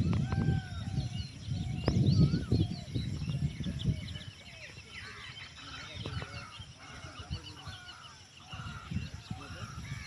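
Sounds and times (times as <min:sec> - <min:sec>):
birds chirping and calling: 0:00.0 - 0:10.0.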